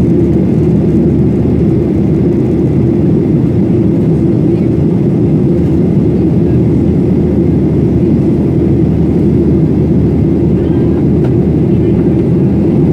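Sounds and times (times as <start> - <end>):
airplane cabin noise: 0.0 - 12.9.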